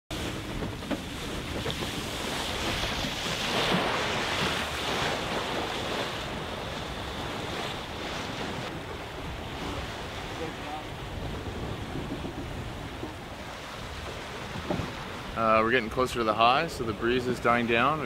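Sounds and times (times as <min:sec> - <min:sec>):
wind buffeting microphone: 0:00.1 - 0:17.7
water rushing past hull: 0:00.1 - 0:18.0.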